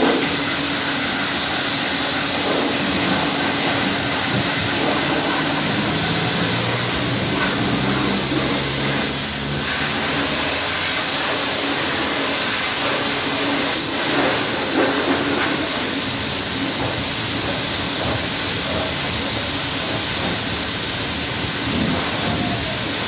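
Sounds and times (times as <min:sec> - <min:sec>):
pressure washer spray hissing: 0:00.0 - 0:23.0
pump motor hum: 0:00.0 - 0:23.0.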